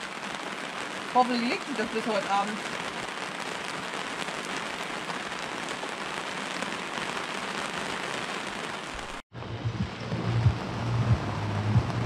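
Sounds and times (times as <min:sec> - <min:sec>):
rain on canvas and sea: 0:00.0 - 0:12.0.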